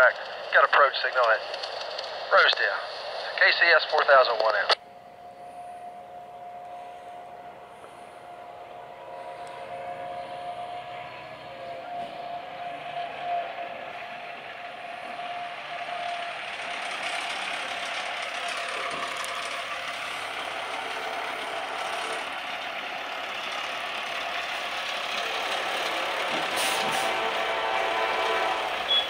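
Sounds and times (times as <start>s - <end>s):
freight train rumbling: 0.0s - 29.0s.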